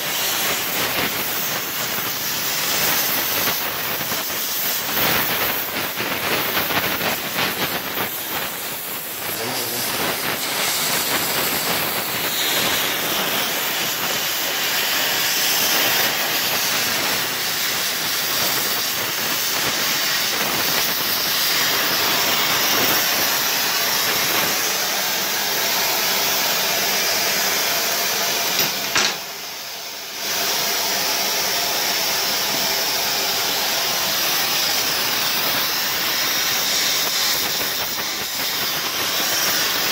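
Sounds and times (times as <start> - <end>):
welding torch flame hissing: 0.0 - 39.9.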